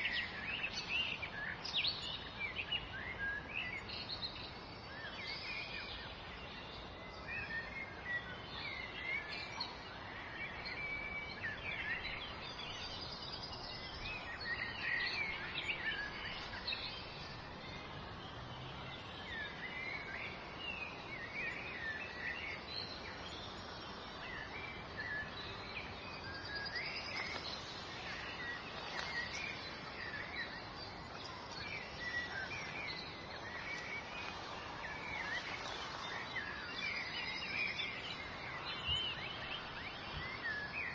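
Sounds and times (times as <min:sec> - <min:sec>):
small birds chirping: 0:00.0 - 0:40.9
steady background hiss: 0:00.0 - 0:40.9.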